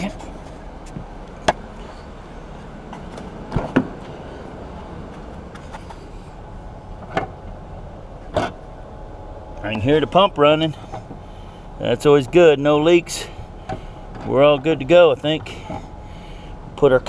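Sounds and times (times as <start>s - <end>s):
car engine idling: 0.0s - 17.0s
fuel pump running: 0.0s - 17.0s.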